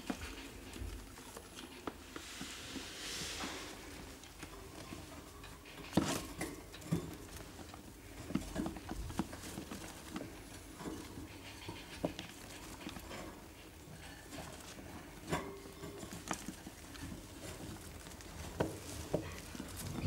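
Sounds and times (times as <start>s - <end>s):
rats scrabbling in paper bedding: 0.0s - 20.0s.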